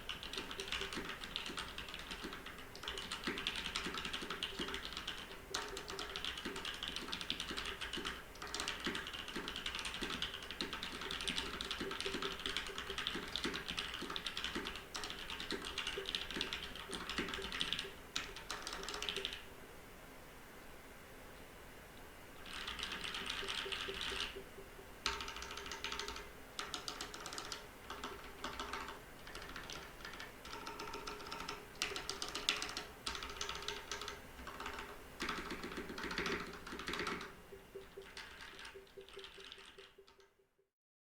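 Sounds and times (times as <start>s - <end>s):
mechanical keyboard typing: 0.0s - 19.5s, 22.4s - 40.4s.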